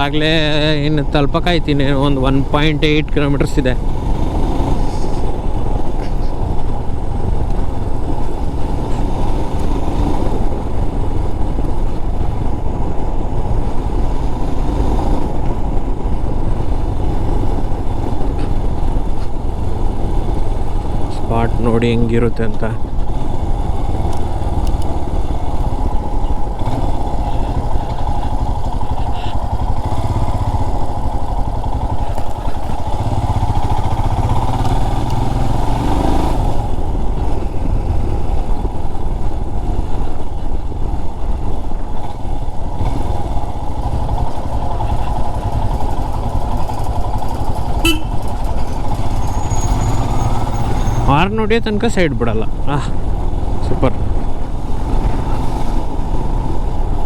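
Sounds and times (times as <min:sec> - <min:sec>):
motorcycle engine and road noise: 0:00.0 - 0:57.0.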